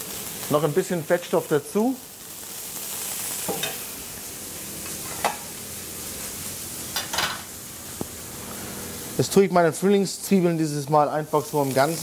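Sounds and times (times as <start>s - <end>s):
vegetables sizzling in pan: 0.0s - 12.0s.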